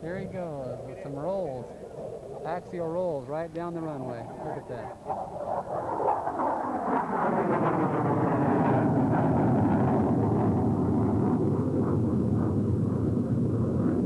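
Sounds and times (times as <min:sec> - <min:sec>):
fighter jet passing low: 0:00.0 - 0:14.0.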